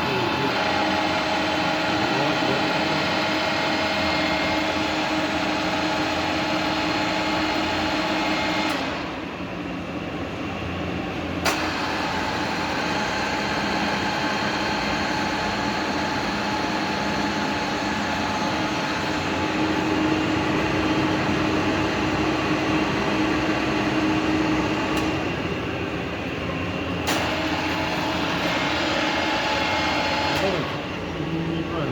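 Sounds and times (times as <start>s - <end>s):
milling machine running: 0.0s - 31.9s.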